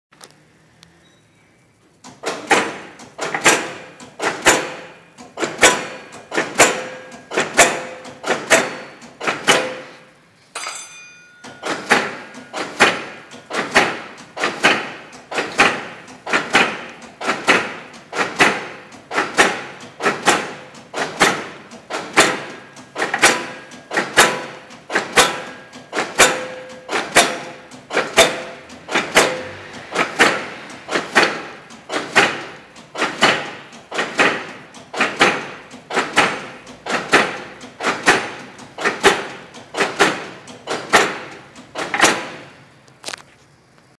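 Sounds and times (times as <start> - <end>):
printing press clacking: 2.0 - 10.1, 11.2 - 42.6.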